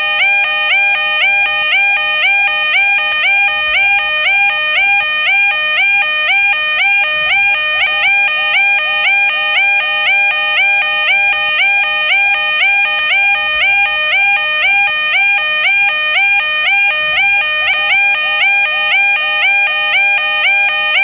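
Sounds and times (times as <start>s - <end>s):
level crossing warning alarm: 0.0s - 21.0s.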